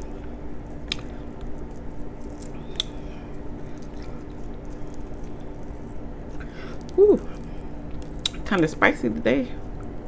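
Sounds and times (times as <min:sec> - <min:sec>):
shrimp shell cracking: 0:00.0 - 0:08.7
steady low hum: 0:00.0 - 0:10.0.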